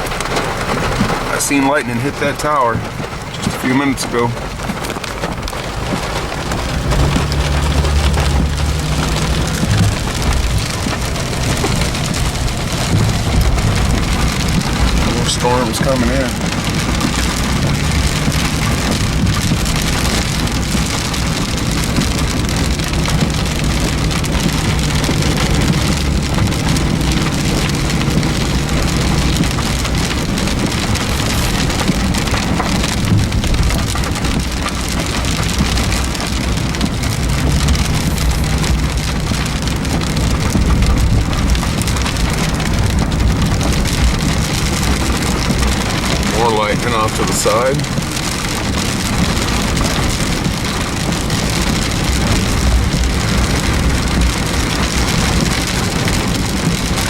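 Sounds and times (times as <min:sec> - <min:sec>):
heavy rain on a car: 0:00.0 - 0:57.0
low vehicle hum: 0:00.0 - 0:57.0.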